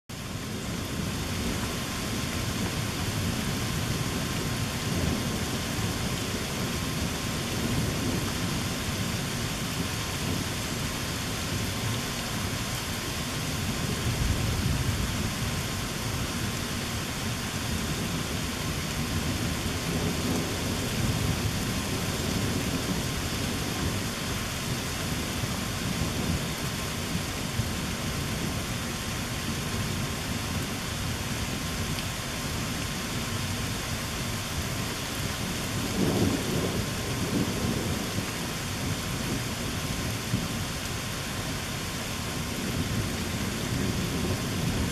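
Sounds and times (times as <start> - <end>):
steady rain falling: 0.1 - 44.9
low rumble of thunder: 0.2 - 44.9.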